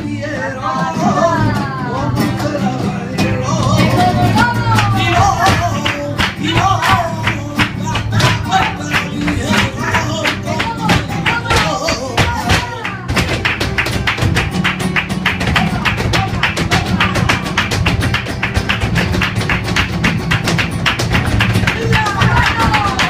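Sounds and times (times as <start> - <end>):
flamenco music: 0.0 - 23.0
flamenco shoes tapping on floor: 0.0 - 23.0.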